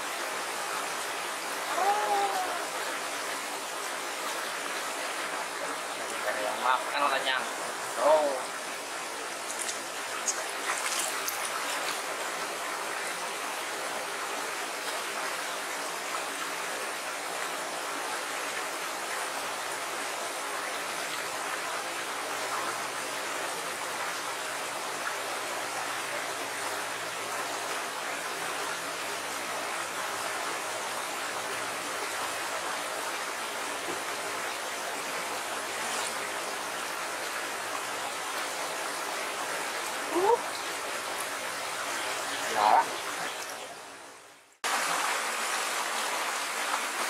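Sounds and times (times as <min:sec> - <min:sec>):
water rushing over stones: 0:00.0 - 0:47.0.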